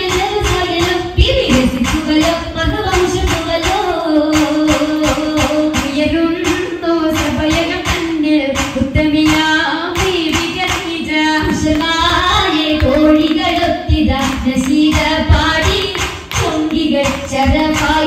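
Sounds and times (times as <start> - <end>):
high voices singing melody: 0.0 - 18.0
rhythmic hand clapping: 0.0 - 18.0.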